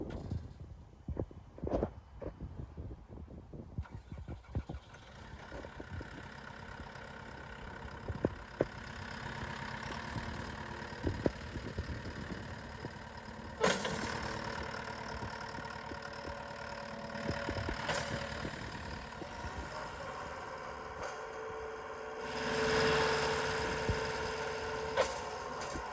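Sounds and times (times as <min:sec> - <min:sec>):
diesel engine idling: 0:04.8 - 0:25.9.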